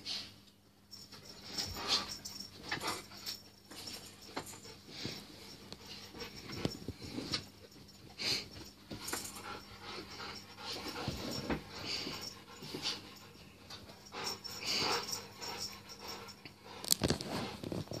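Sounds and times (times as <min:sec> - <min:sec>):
dogs panting hard: 0:01.5 - 0:17.6.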